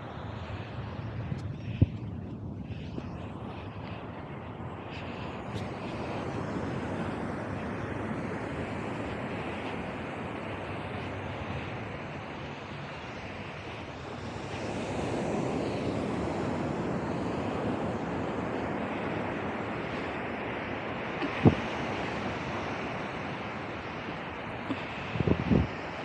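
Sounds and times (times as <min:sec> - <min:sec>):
ocean surf washing up beach: 0:00.0 - 0:26.0
wind buffeting microphone: 0:00.0 - 0:26.0.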